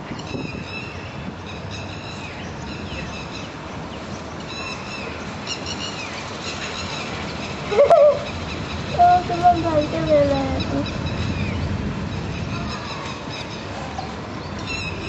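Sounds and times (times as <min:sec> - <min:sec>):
traffic hum: 0:00.0 - 0:15.0.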